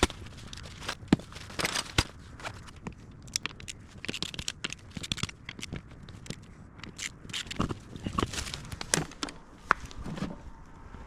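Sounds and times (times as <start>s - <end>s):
scraping and crackling handling: 0.0s - 10.6s.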